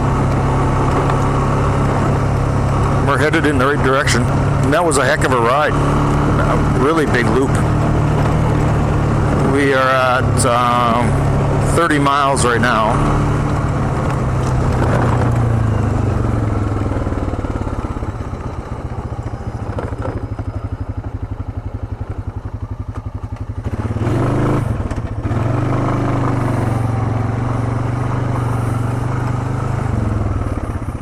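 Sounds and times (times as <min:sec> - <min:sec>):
quad engine running: 0:00.0 - 0:31.0.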